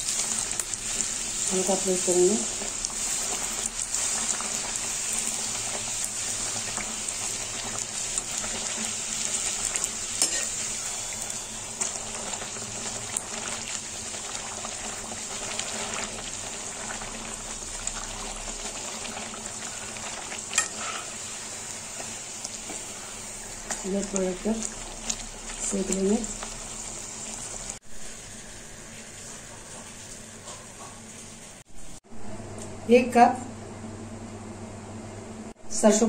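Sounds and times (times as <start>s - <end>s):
dough sizzling in hot oil: 0.0s - 30.4s.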